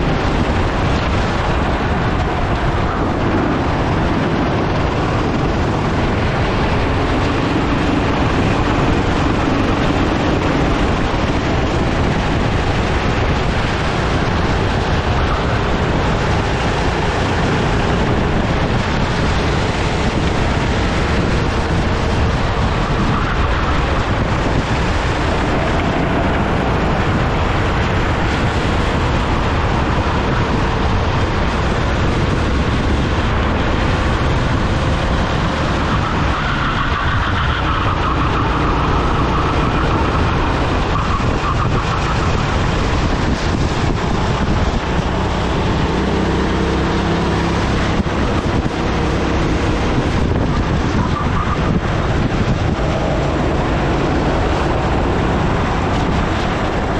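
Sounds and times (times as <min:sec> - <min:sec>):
faint kart engine: 0:00.0 - 0:56.9
wind buffeting microphone: 0:00.0 - 0:56.9.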